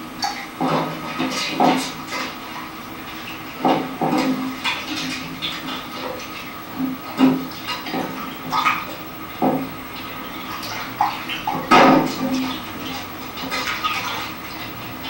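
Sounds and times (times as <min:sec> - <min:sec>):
hands splashing water in buckets: 0:00.2 - 0:15.0.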